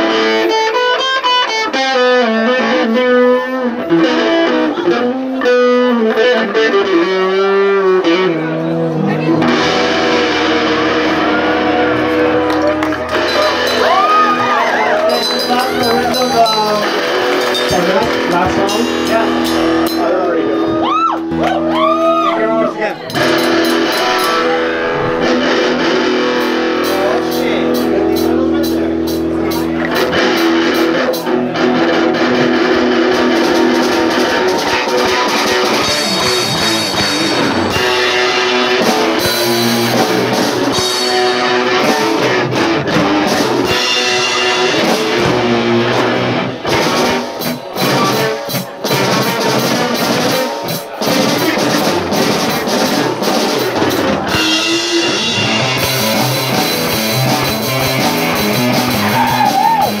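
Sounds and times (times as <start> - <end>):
live rock band playing: 0.0 - 60.0.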